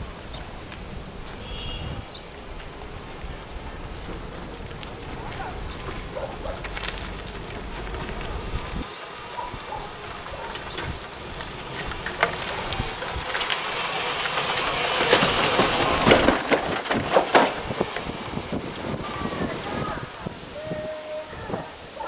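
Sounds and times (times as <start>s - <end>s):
train wheels knocking over rail joints: 0.1s - 19.9s.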